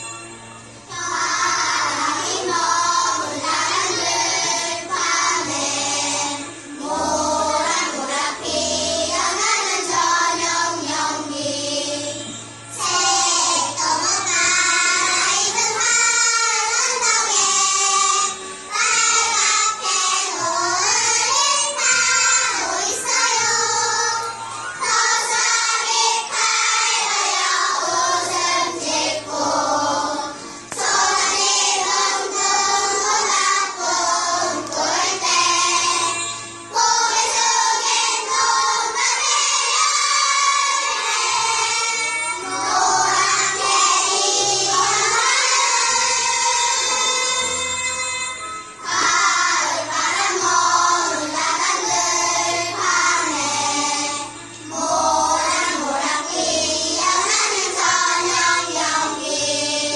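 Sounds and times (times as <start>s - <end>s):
children singing: 0.8s - 59.9s.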